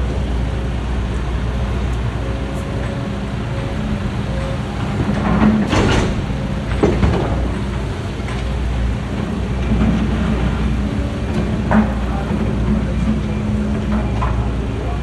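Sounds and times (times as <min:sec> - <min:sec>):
construction machine engine running: 0:00.0 - 0:15.0.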